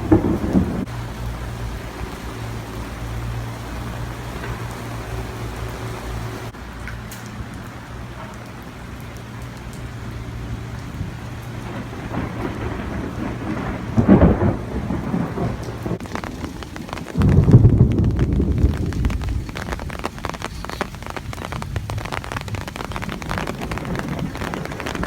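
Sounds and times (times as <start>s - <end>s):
thunder rolling: 0.0s - 6.6s, 7.4s - 25.0s
heavy rain: 0.0s - 25.0s.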